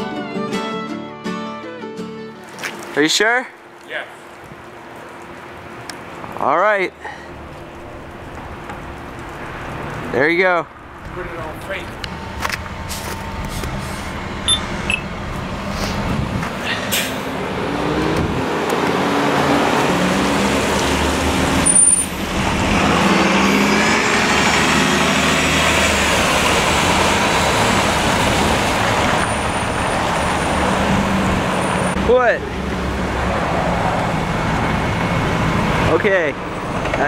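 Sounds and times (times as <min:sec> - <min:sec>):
street traffic: 0:01.9 - 0:37.0
bus and trucks pulling away: 0:07.0 - 0:37.0.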